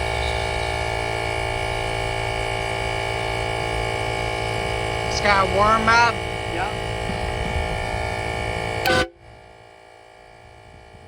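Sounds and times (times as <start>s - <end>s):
air compressor droning: 0.0s - 11.0s.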